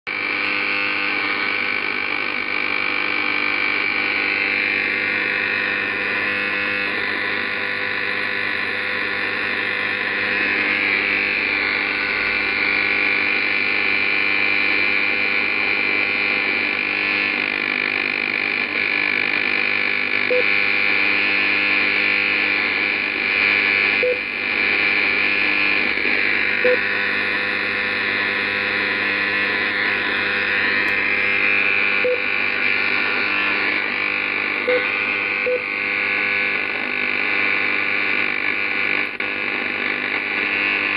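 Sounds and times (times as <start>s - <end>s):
radio interference hiss and buzz: 0.1s - 40.9s
steady hum tones: 0.2s - 40.9s.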